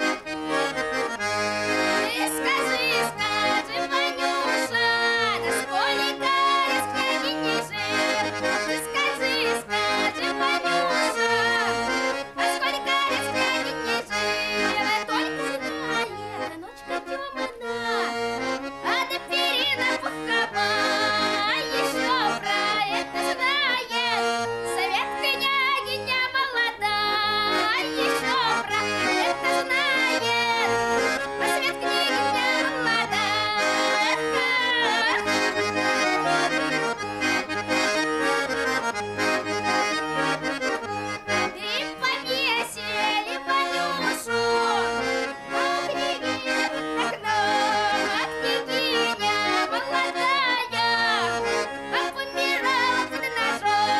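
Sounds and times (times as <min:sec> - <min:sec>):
accordion folk melody: 0:00.0 - 0:53.9.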